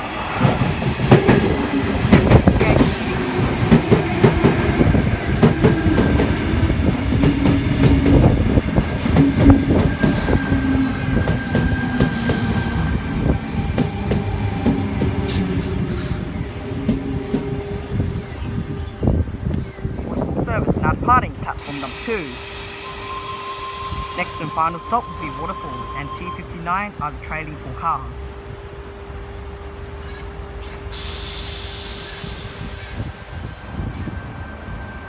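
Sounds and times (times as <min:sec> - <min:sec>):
steady train hum: 0:00.0 - 0:35.0.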